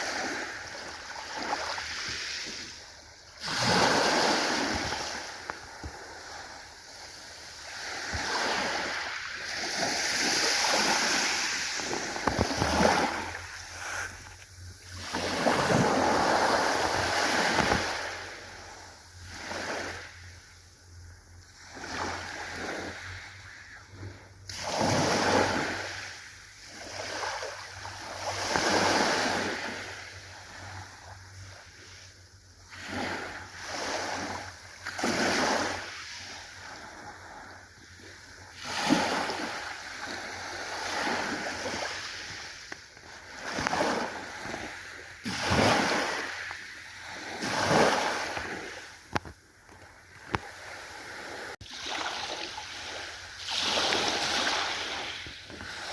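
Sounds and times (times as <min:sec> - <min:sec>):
ocean waves breaking: 0:00.0 - 0:20.4, 0:21.6 - 0:32.0, 0:32.6 - 0:55.9.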